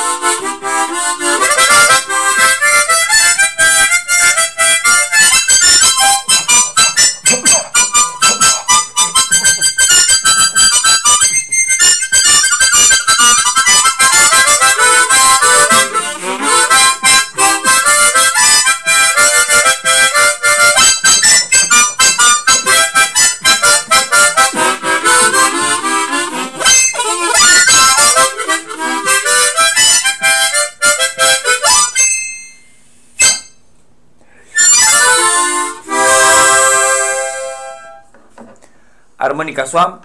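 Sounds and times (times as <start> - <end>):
harmonica playing folk dance tune: 0.0 - 33.6, 34.4 - 38.1.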